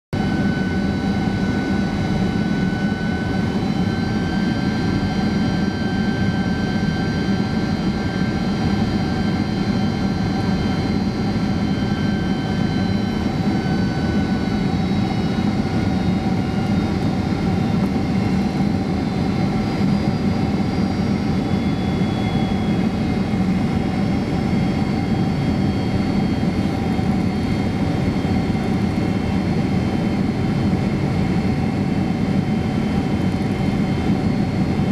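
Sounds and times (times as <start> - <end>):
airflow and jet engine rush: 0.1 - 34.9.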